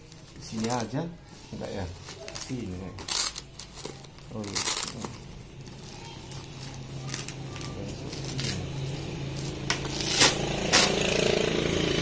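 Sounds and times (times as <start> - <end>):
fabric rustling and scraping: 0.0 - 11.0.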